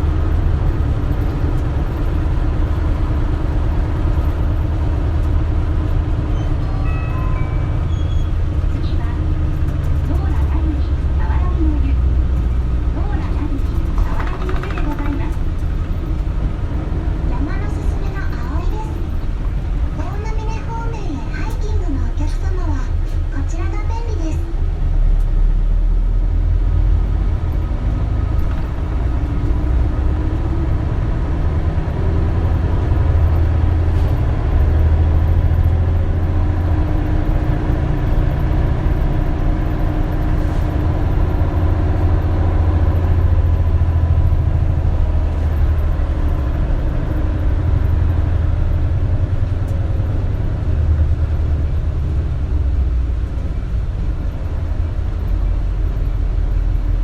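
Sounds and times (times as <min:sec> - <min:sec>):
bus engine and road noise drone: 0:00.0 - 0:57.0.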